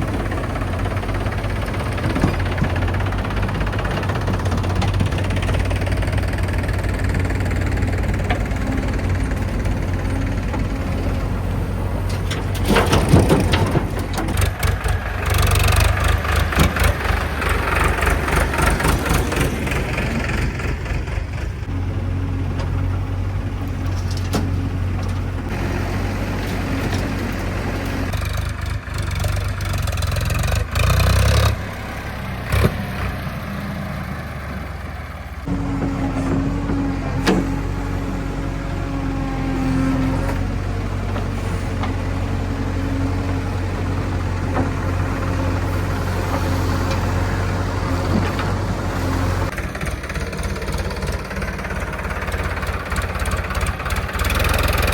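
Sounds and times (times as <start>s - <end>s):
machinery rattling and clatter: 0.0s - 31.6s, 35.4s - 54.9s
heavy diesel engine running: 0.0s - 54.9s.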